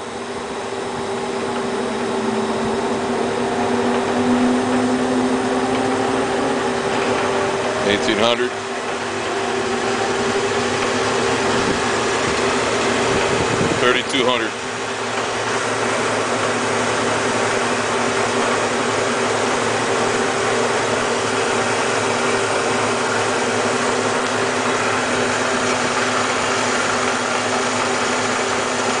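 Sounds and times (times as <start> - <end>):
wood lathe motor humming: 0.0 - 29.0.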